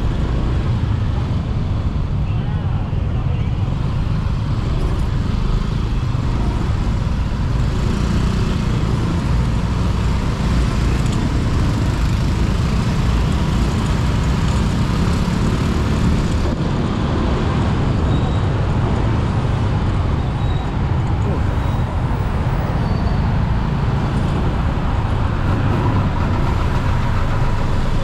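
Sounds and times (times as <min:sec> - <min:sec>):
motorbike road and traffic rumble: 0:00.0 - 0:28.0.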